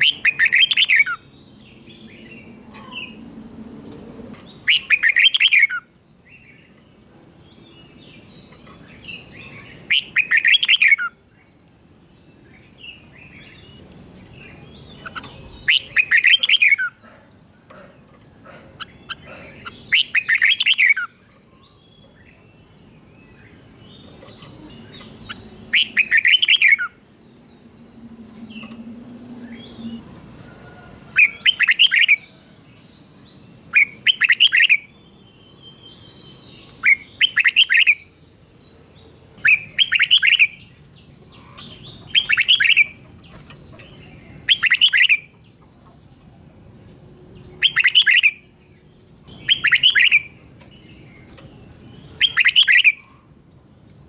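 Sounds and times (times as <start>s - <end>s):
bird singing rapid phrase: 0.0s - 3.2s, 4.4s - 30.1s, 31.2s - 46.2s, 46.9s - 53.1s.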